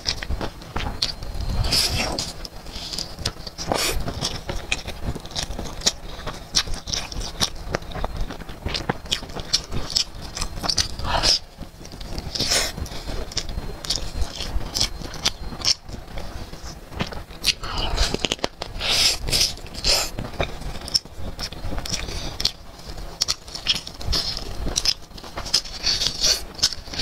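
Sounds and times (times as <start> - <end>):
crunching and chewing: 0.0 - 27.0.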